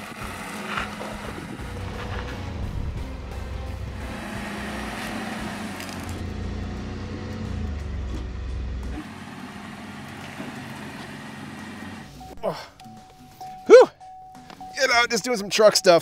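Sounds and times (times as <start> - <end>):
pickup engine droning: 0.0 - 14.9.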